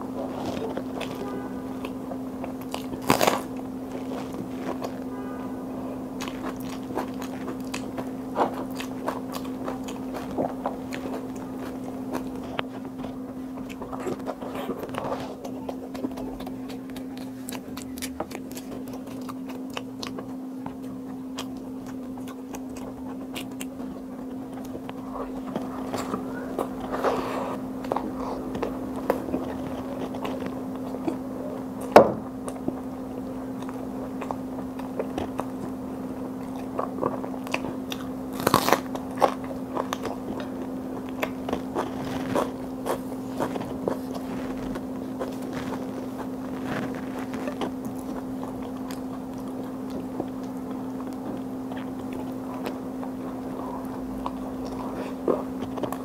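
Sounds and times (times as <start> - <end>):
steady hum: 0.0 - 56.0
chewing and mouth smacks: 6.2 - 56.0.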